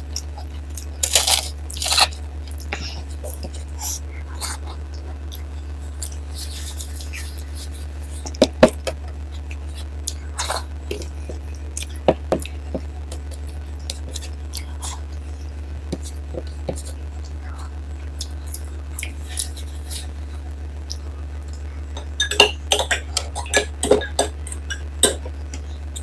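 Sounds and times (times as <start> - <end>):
quiet chewing: 0.0 - 22.2
steady low hum: 0.0 - 26.0.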